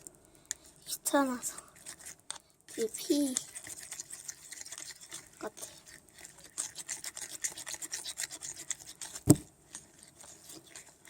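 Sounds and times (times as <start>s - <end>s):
tool scraping in slime: 1.2s - 11.0s.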